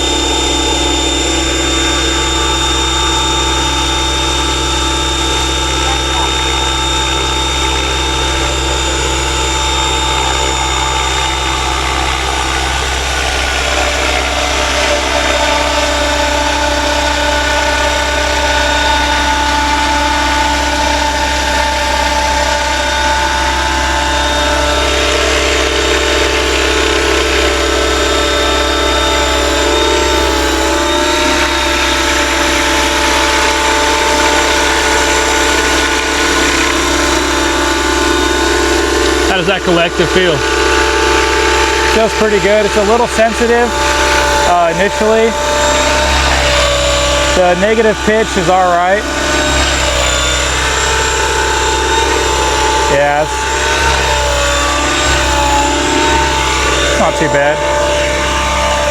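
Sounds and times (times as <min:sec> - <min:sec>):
rc helicopter rotor whine: 0:00.0 - 0:58.9.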